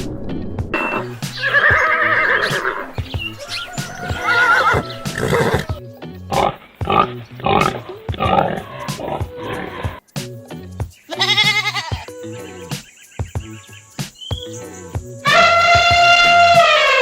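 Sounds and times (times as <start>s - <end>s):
background music: 0.0s - 17.0s
wavering animal calls: 0.9s - 10.1s, 11.0s - 17.0s.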